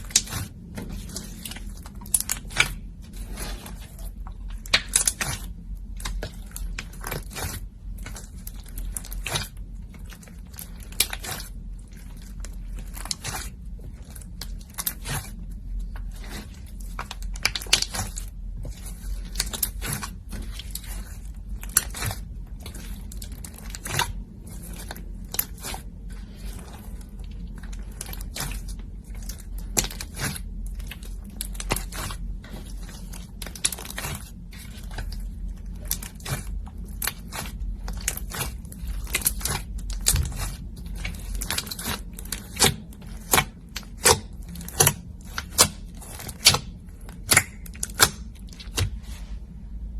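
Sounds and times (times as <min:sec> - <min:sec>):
slime squished by hand: 0:00.0 - 0:49.3.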